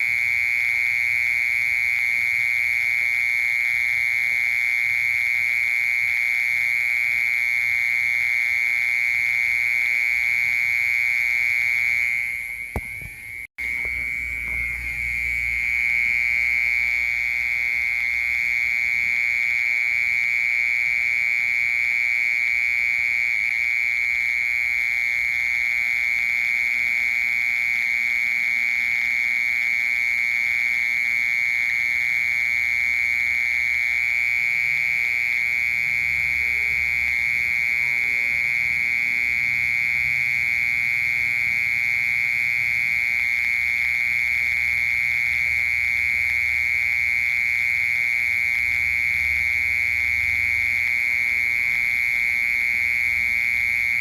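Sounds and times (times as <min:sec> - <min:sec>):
mole cricket trilling: 0:00.0 - 0:54.0.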